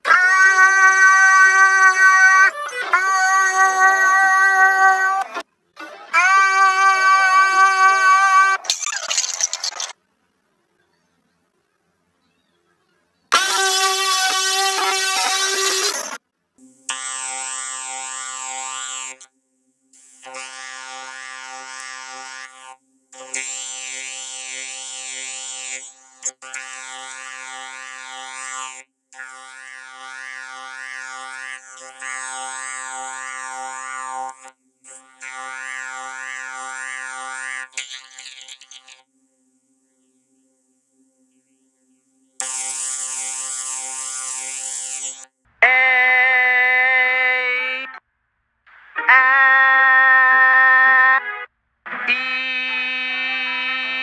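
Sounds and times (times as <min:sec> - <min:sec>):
cartoon bee buzzing: 0:00.0 - 0:10.0, 0:13.3 - 0:39.1, 0:42.4 - 0:48.0, 0:48.7 - 0:54.0.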